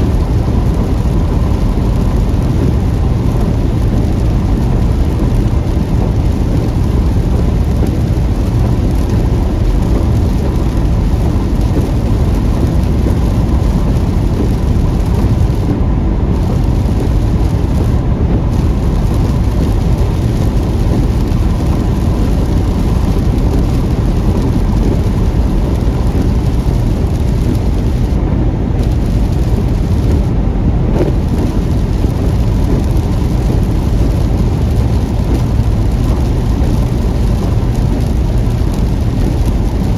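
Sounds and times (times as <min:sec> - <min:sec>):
heavy rain on a car: 0:00.0 - 0:39.9
road and engine rumble: 0:00.0 - 0:39.9.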